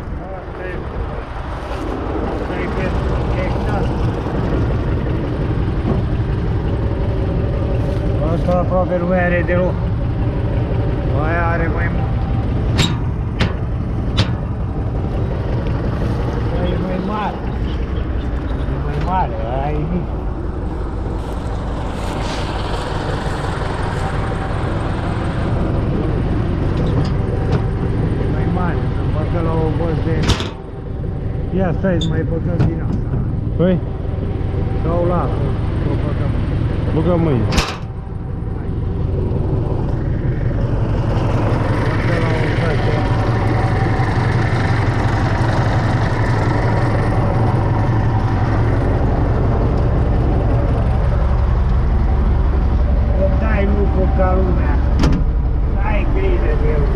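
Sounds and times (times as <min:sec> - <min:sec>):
tractor diesel engine idling: 0:00.0 - 0:56.9.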